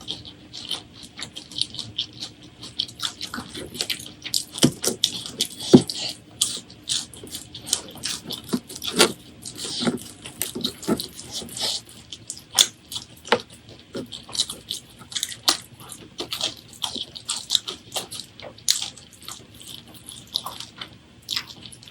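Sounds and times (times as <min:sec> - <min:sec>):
wet chewing and lip smacking: 0:00.0 - 0:21.9.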